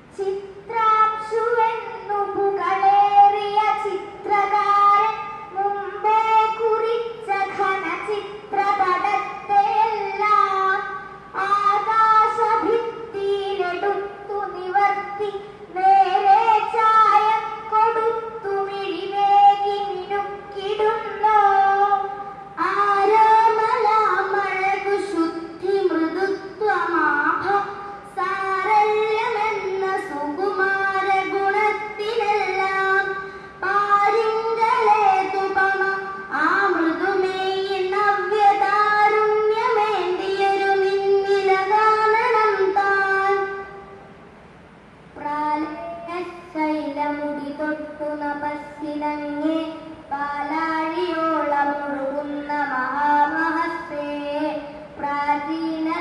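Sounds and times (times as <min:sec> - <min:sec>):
girl chanting melodically: 0:00.0 - 0:44.0, 0:45.0 - 0:56.0.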